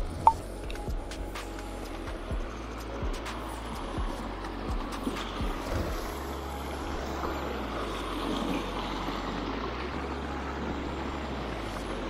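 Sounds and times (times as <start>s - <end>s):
low rumble: 0.0s - 12.0s
stream running over stones: 0.0s - 12.0s.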